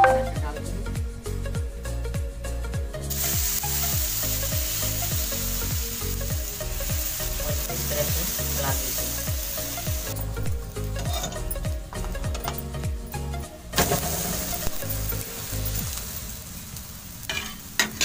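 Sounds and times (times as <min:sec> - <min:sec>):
music with repeating bass: 0:00.0 - 0:16.0
batter sizzling in hot oil: 0:03.0 - 0:18.0.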